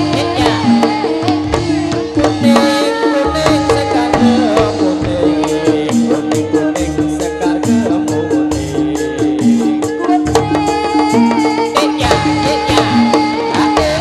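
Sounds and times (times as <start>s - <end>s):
drum beats: 0.0s - 14.0s
gamelan metal notes: 0.0s - 14.0s.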